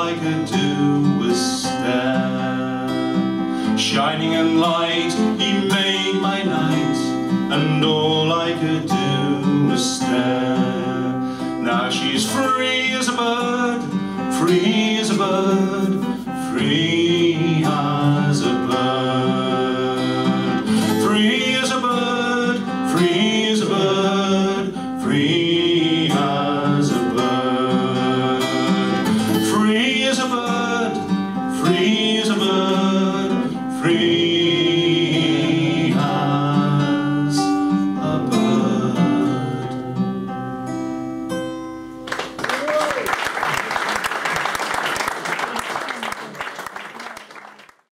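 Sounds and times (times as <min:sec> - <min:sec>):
man singing: 0:00.0 - 0:40.4
acoustic guitar: 0:00.0 - 0:47.6.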